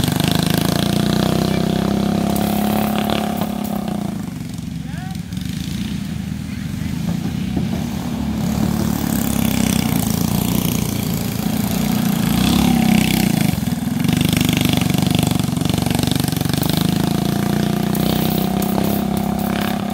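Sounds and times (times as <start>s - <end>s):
go-kart engine passing: 0.0s - 19.9s.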